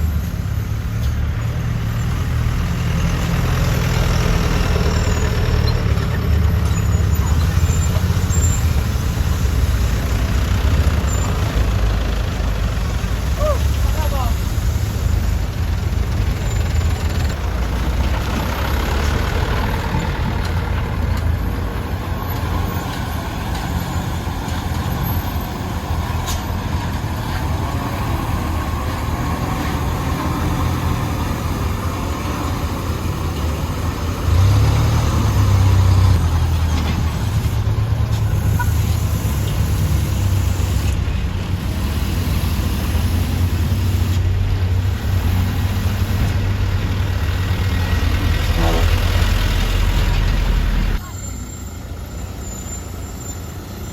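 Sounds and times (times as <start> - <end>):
truck engine rumbling: 0.0 - 53.9.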